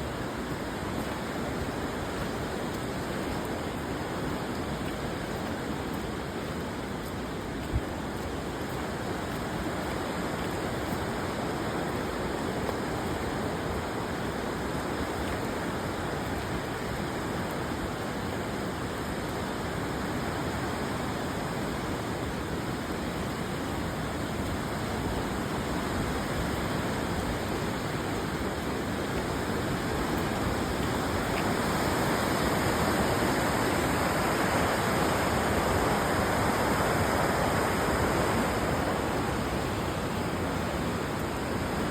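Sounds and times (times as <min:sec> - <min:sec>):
fast-flowing river rushing: 0:00.0 - 0:41.9.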